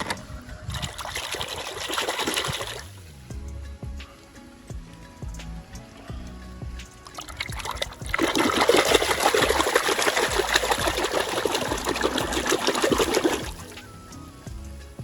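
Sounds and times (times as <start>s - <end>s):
running water splashing: 0.0s - 15.0s.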